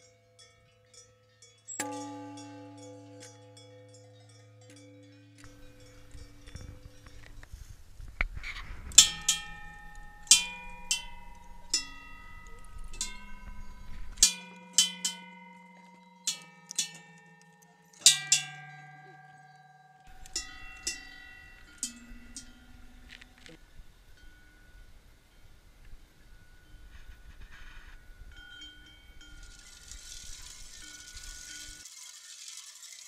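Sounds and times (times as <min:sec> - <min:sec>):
small metal bells ringing: 0:00.0 - 0:31.9.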